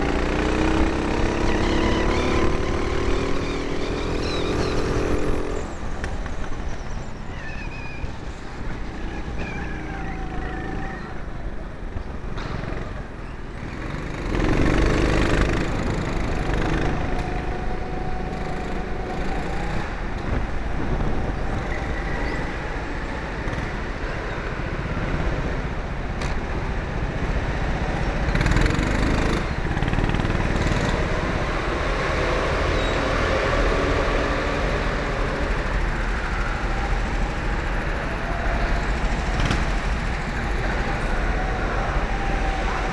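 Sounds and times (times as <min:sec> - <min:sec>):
go-kart engines running: 0:00.0 - 0:42.9.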